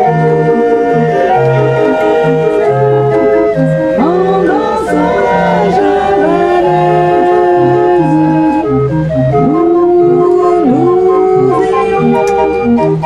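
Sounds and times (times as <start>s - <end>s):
person singing: 0.0s - 8.6s, 9.4s - 12.4s
barrel organ playing: 0.0s - 13.0s.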